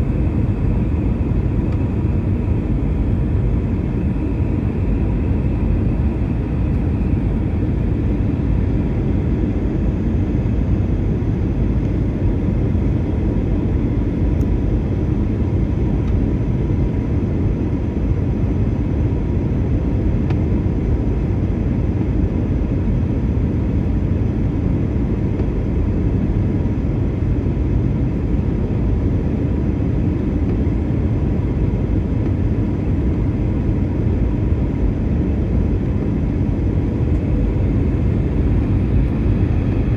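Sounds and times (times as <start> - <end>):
jet cabin engine rush: 0.0 - 39.9.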